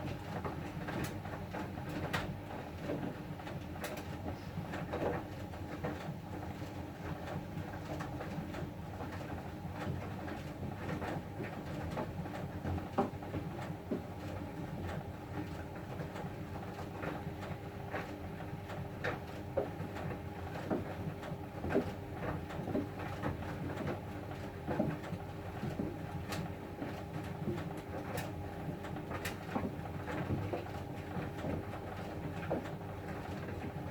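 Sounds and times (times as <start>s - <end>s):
washing machine motor and drum hum: 0.0s - 33.9s.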